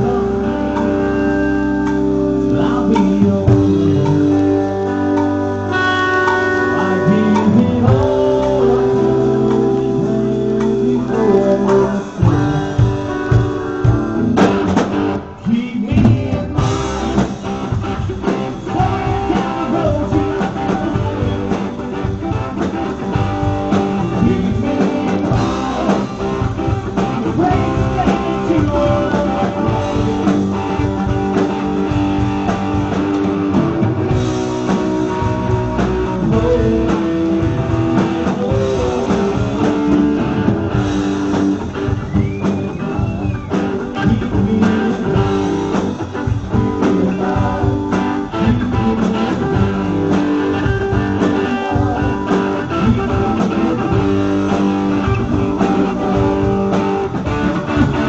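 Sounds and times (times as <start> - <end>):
person singing: 0.0 - 13.9, 15.3 - 17.4, 18.2 - 32.0, 34.5 - 41.5, 42.2 - 58.0
live rock band playing: 0.0 - 58.0.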